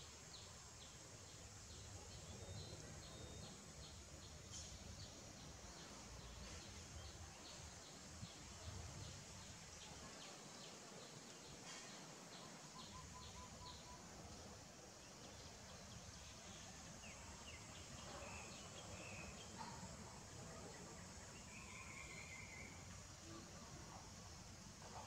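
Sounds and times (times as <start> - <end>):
soft steady hiss: 0.0 - 25.0.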